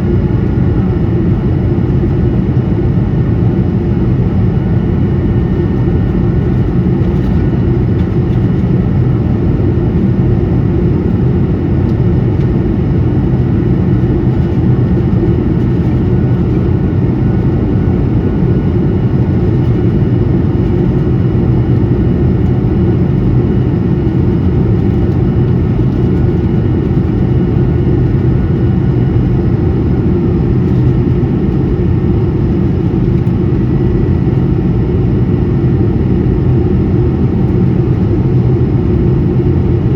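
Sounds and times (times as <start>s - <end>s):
aircraft cabin engine rush: 0.0s - 39.9s.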